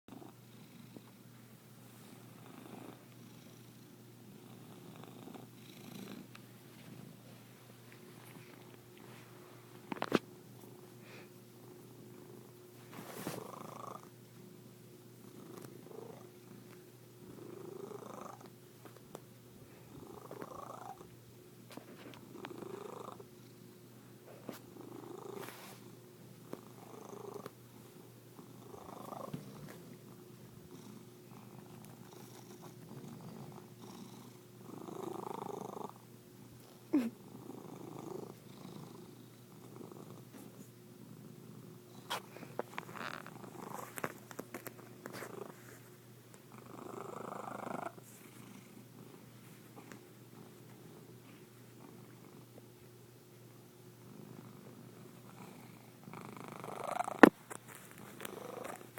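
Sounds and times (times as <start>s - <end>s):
cat purring: 0.1s - 58.9s.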